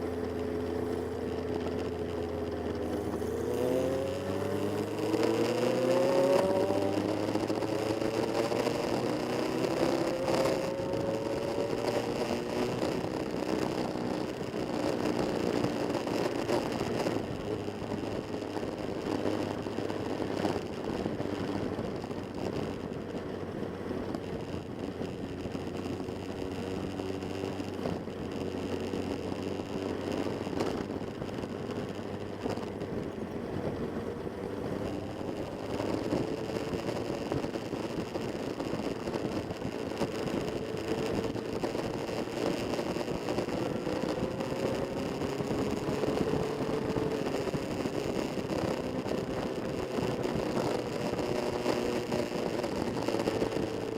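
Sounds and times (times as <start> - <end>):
road and wind noise: 0.0 - 53.9
vehicle engine running: 0.0 - 53.9.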